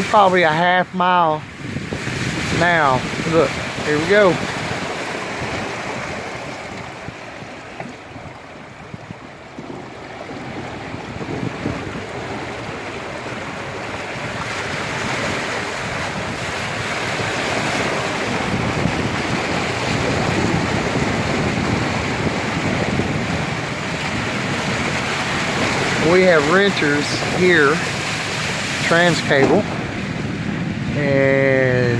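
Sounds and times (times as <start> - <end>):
floodwater rushing and splashing: 0.0 - 31.9.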